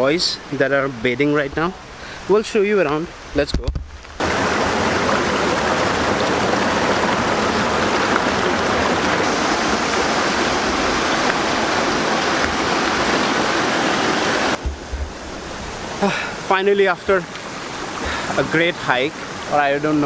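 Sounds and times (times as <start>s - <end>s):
water rushing down waterfall: 0.0s - 20.0s.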